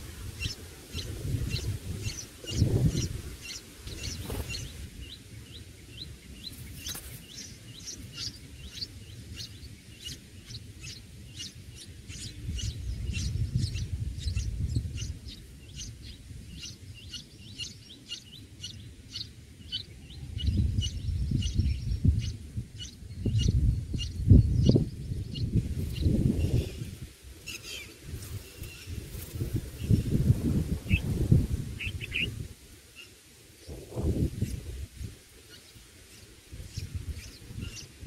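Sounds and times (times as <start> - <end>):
small birds chirping: 0.2 - 38.0.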